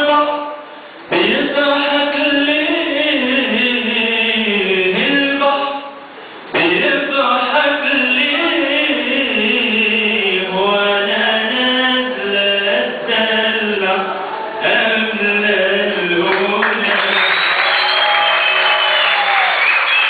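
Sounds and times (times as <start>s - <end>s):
man singing melismatic song: 0.0s - 17.9s.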